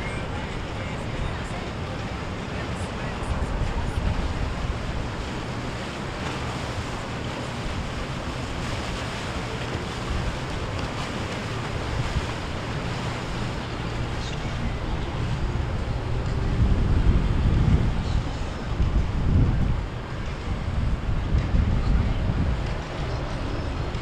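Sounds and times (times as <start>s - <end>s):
boat engine drone: 0.0s - 24.0s
sea waves: 0.0s - 24.0s
wind buffeting microphone: 0.0s - 24.0s.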